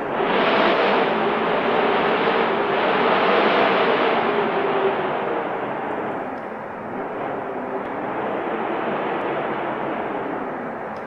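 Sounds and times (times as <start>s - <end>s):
snowstorm wind rushing: 0.0s - 11.0s.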